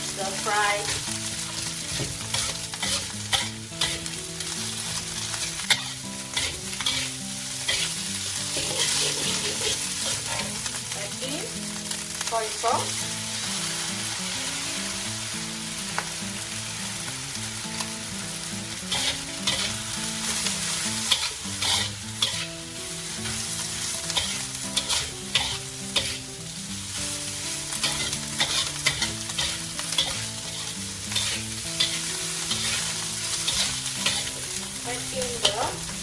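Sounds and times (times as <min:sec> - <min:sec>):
spatula scraping and knocking wok: 0:00.0 - 0:10.8, 0:17.7 - 0:36.0
rice sizzling in a wok: 0:00.0 - 0:36.0.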